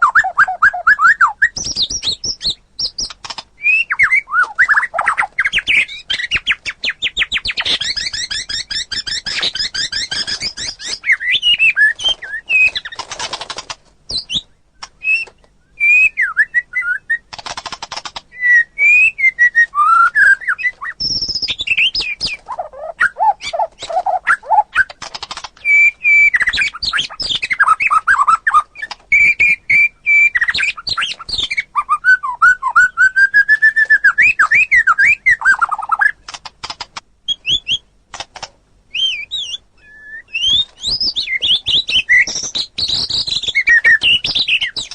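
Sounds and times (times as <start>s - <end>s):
songbird singing varied song: 0.0s - 13.0s, 14.1s - 17.3s, 18.3s - 37.9s, 38.9s - 44.9s.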